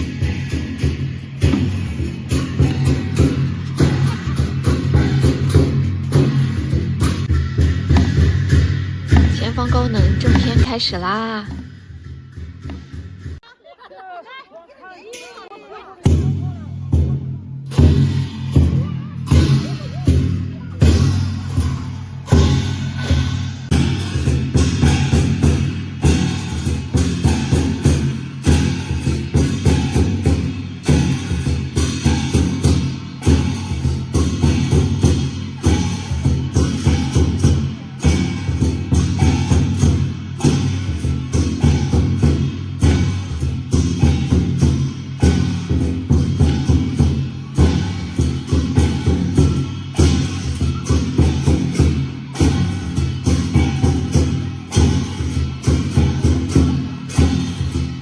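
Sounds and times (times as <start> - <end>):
drums and cymbals beating: 0.0 - 14.3, 14.9 - 58.0.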